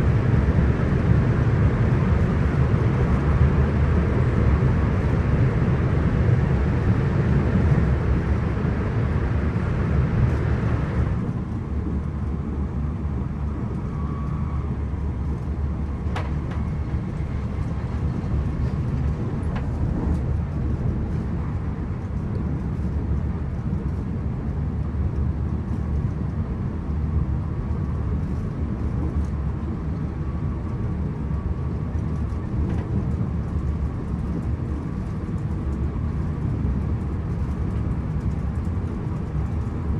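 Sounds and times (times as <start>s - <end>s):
train interior rumble: 0.0s - 39.9s.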